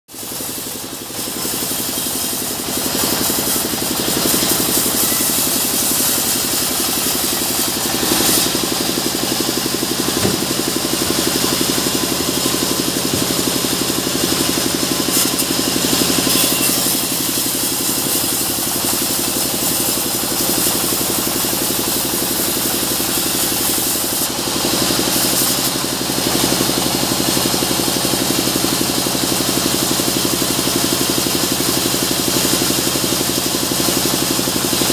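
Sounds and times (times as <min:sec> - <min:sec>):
band saw machine humming: 0:00.1 - 0:33.2.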